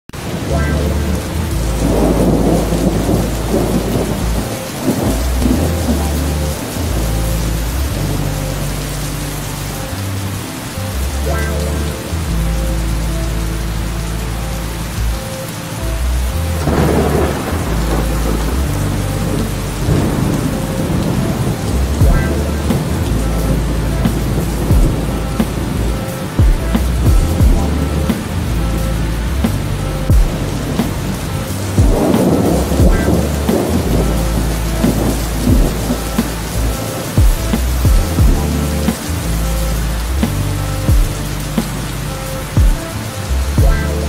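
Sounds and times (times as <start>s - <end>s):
heavy rain: 0.1s - 44.0s
thunder rumbling: 0.2s - 10.6s, 15.9s - 44.0s.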